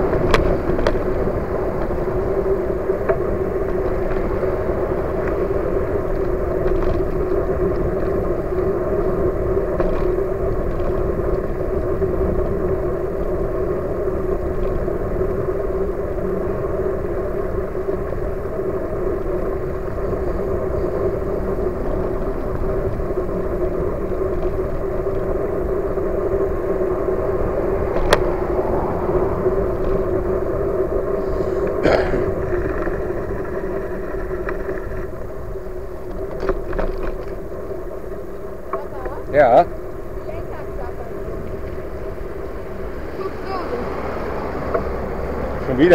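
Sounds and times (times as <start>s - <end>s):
constant hum: 0.0s - 45.9s
wind and tyres rumbling: 0.0s - 45.9s.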